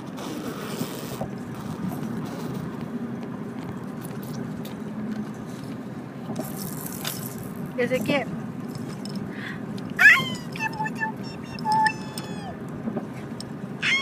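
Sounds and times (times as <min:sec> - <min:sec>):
car cabin road noise: 0:00.0 - 0:14.0.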